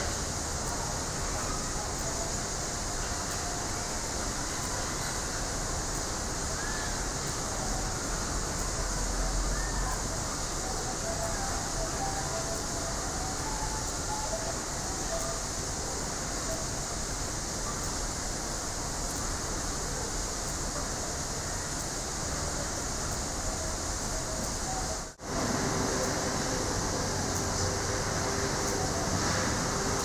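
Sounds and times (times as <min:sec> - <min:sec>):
faint indistinct sounds: 0:00.0 - 0:30.0
steady background hiss: 0:00.0 - 0:30.0.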